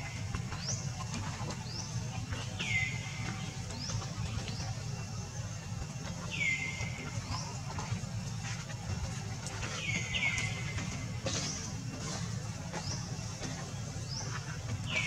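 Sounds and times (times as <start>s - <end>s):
descending bird calls: 0.0s - 15.0s.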